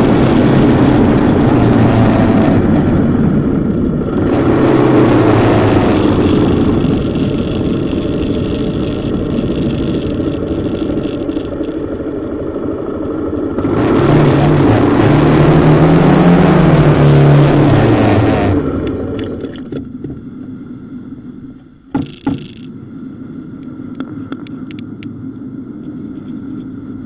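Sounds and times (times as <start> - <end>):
motorcycle engine running: 0.0 - 27.0
road noise: 0.0 - 27.0.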